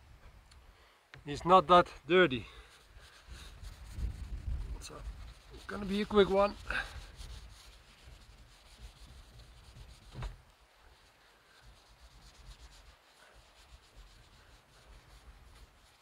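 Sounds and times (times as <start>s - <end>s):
cloth wiping a panel: 2.7s - 16.0s.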